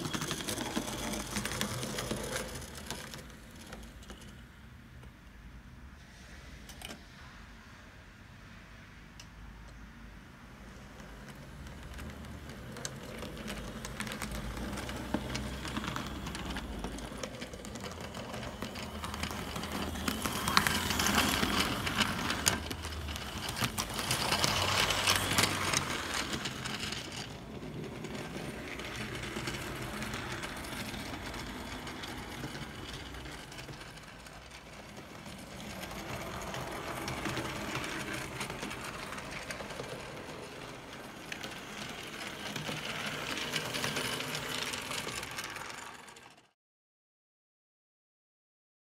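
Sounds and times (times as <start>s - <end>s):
model train motor whirring: 0.0s - 4.4s, 11.0s - 46.5s
wheels clicking over track: 0.0s - 5.2s, 10.7s - 46.6s.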